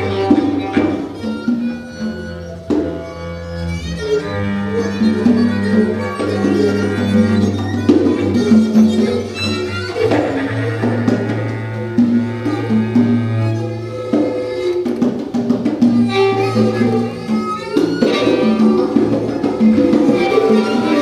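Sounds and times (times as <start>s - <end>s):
congas: 0.0s - 21.0s
pitched string notes: 0.0s - 21.0s.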